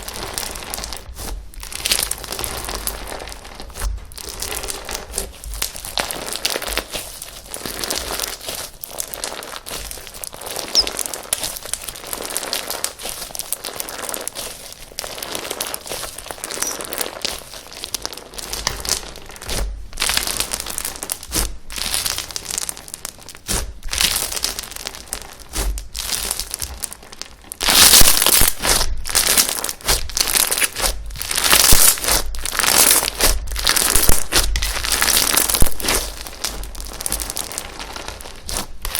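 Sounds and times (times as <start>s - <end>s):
slime squishing sticky pops: 3.7s - 24.8s, 25.4s - 27.0s, 27.6s - 37.6s.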